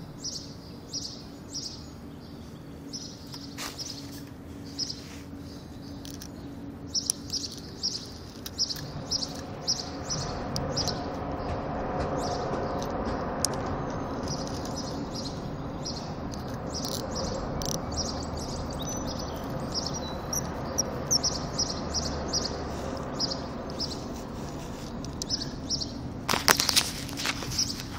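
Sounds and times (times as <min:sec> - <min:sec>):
low rushing background noise: 0:00.0 - 0:27.9
small birds chirping: 0:00.0 - 0:27.9.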